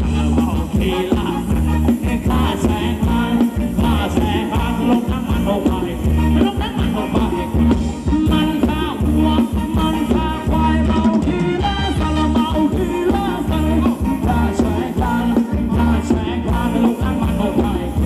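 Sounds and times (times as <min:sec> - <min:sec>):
live band dance music: 0:00.0 - 0:18.0.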